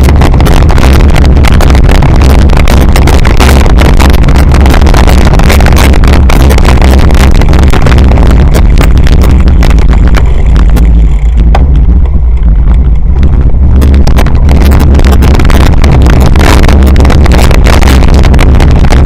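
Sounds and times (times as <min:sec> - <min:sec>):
bike rattling over rough ground: 0:00.0 - 0:19.0
wind buffeting: 0:00.0 - 0:19.0.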